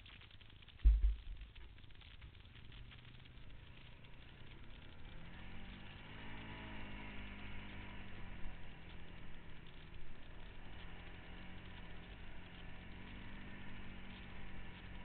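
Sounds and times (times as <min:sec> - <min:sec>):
off-road vehicle engine running: 0:00.2 - 0:15.0.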